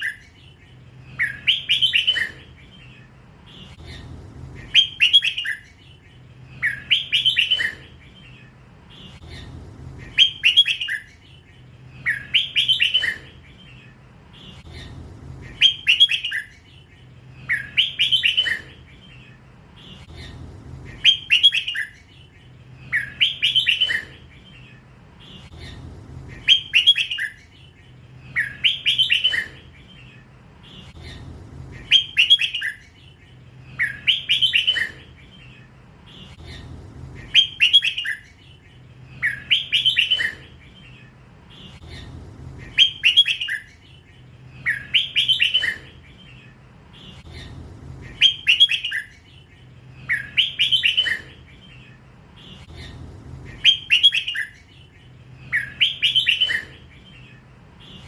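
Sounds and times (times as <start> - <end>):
bird warbling song: 0.0 - 58.0.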